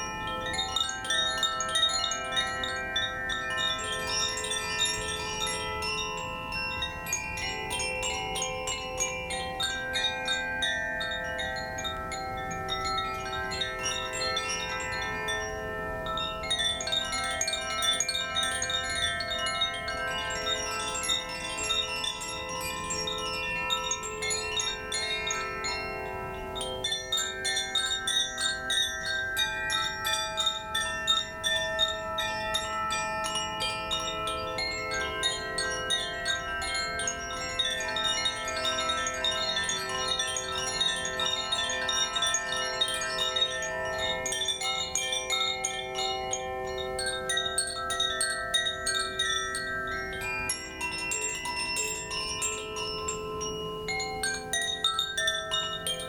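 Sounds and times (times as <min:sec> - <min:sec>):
wind chimes ringing: 0:00.0 - 0:56.0.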